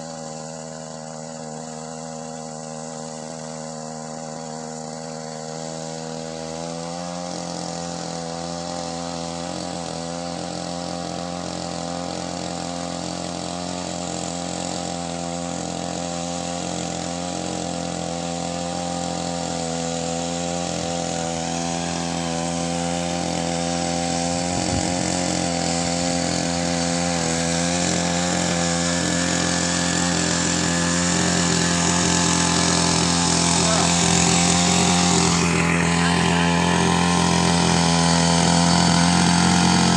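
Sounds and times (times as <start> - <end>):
small weeder engine running: 0.0 - 39.9.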